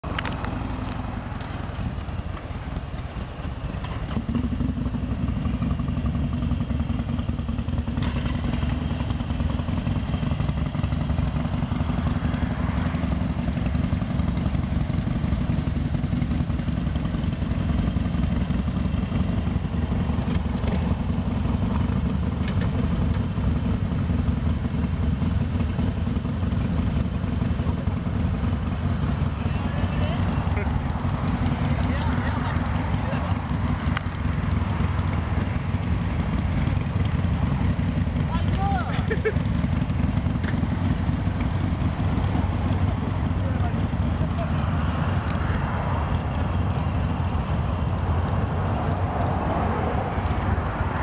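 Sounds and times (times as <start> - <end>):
motorcycle engines idling: 0.0 - 51.0.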